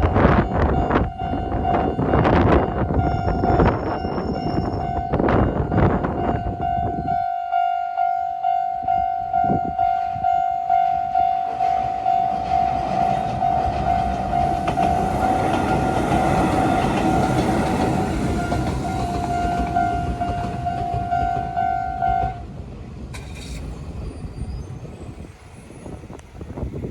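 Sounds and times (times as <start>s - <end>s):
electric train rumbling and clattering: 0.0s - 7.7s, 8.7s - 26.9s.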